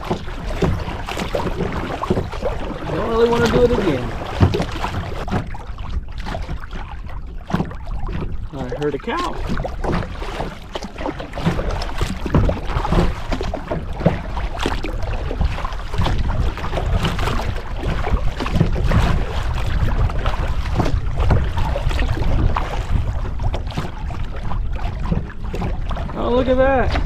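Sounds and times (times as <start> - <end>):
waves splashing against kayak: 0.0 - 27.0
wind buffeting microphone: 0.0 - 27.0.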